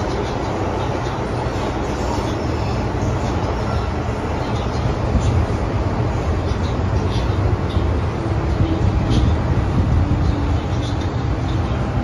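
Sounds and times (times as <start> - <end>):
train rumbling through tunnel: 0.0 - 12.0.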